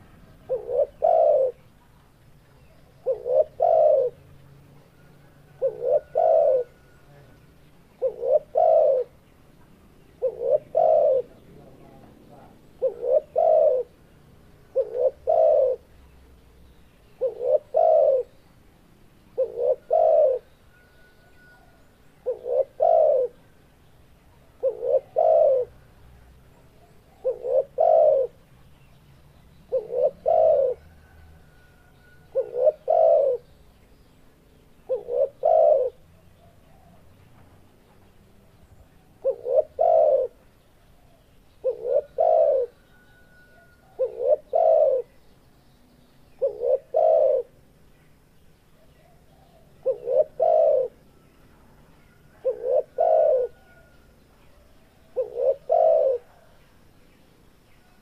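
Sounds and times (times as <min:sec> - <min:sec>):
dove cooing: 0:00.0 - 0:16.0, 0:17.1 - 0:18.4, 0:19.3 - 0:28.9, 0:29.7 - 0:33.5, 0:34.8 - 0:37.2, 0:38.8 - 0:45.2, 0:46.3 - 0:47.8, 0:48.8 - 0:56.7.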